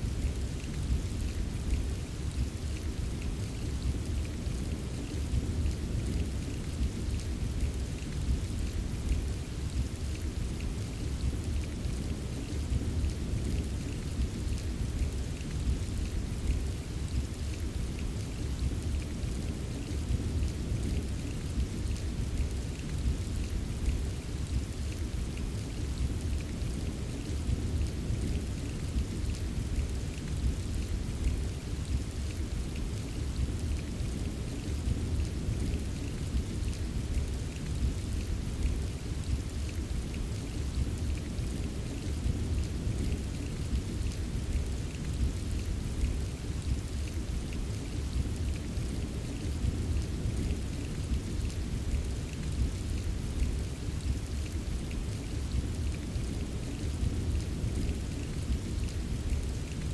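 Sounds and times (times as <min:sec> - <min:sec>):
rain wash: 0:00.0 - 0:59.9
raindrop ticks: 0:00.0 - 0:59.9.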